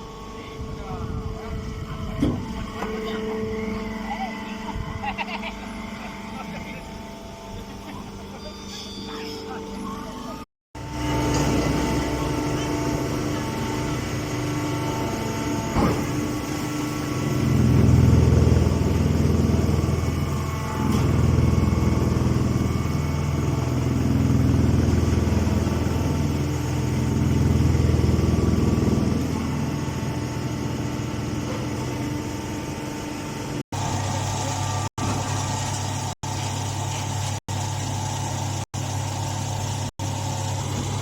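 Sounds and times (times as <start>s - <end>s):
baler machine humming: 0.0s - 41.0s.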